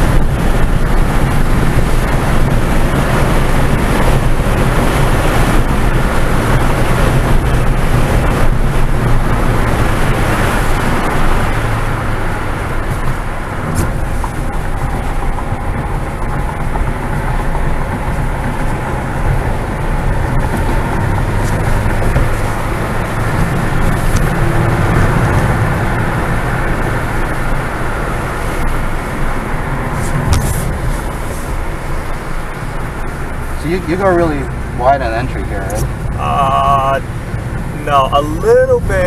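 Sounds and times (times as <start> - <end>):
car engine under hard driving: 0.0 - 39.0
tyre and road noise: 0.0 - 39.0.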